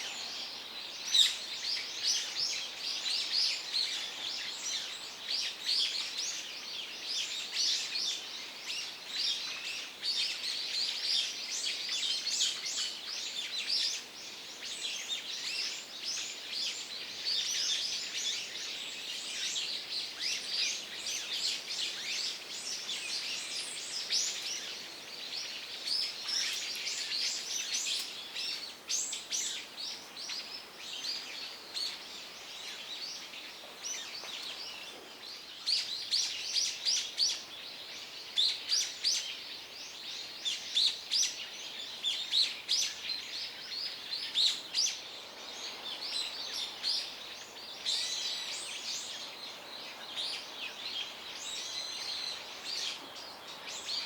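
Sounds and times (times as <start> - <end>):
forest birds chirping: 0.0 - 54.0.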